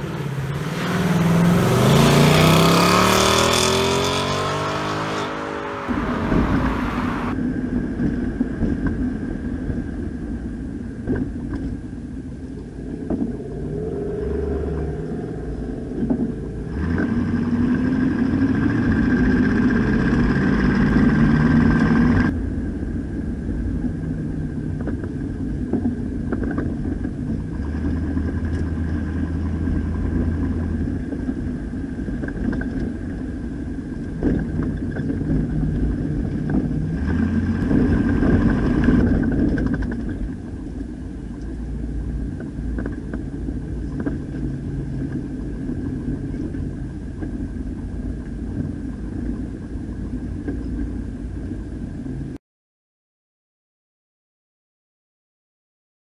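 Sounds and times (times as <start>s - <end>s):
road noise: 0.0s - 52.4s.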